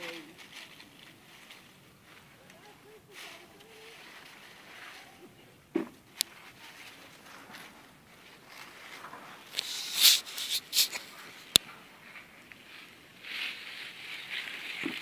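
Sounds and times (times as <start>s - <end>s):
footsteps through plants: 0.0s - 5.5s, 6.1s - 15.0s
leaves rustling: 0.0s - 15.0s.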